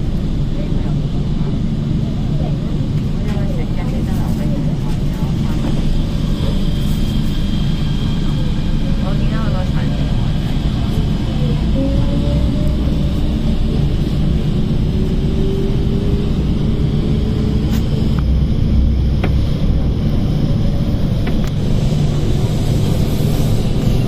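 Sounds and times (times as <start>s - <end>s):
train running gear rumble: 0.0s - 24.0s.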